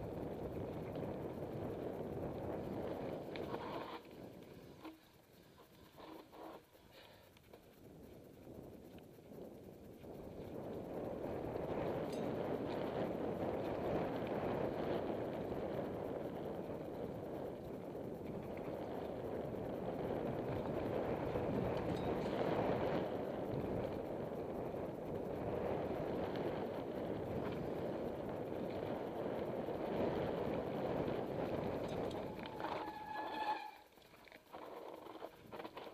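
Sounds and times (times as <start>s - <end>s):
wind on microphone: 0.0s - 6.6s, 7.8s - 35.9s
bike tyres rolling on dirt: 0.0s - 35.9s.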